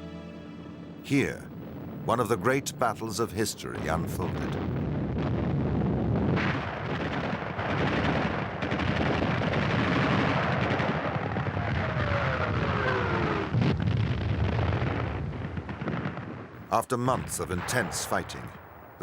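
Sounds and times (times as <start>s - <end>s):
loud explosion: 1.1s - 16.5s, 17.1s - 18.5s
gunfire and artillery: 2.1s - 16.5s, 17.1s - 19.0s.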